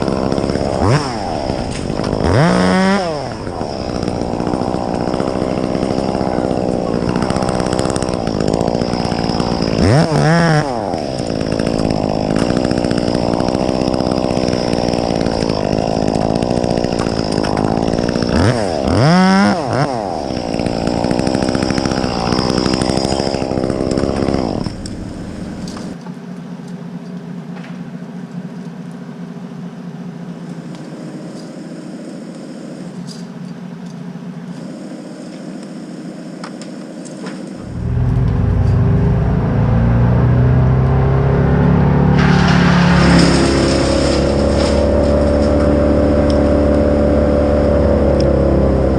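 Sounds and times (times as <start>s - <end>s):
chainsaw revving: 0.0s - 26.0s, 34.6s - 48.9s
steady engine hum: 0.0s - 48.9s.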